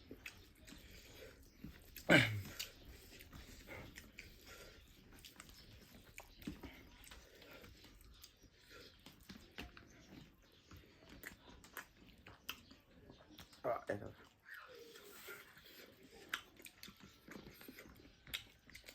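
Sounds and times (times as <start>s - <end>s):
chewing with small crunches: 0.0s - 18.9s.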